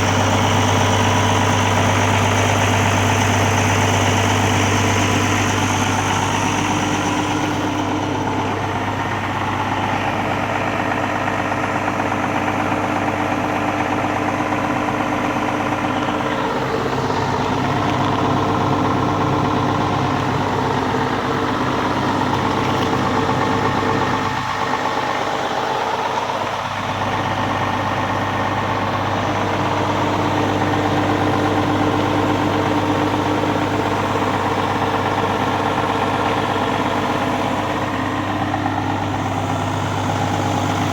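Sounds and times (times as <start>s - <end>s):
tractor diesel engine idling: 0.0s - 40.9s.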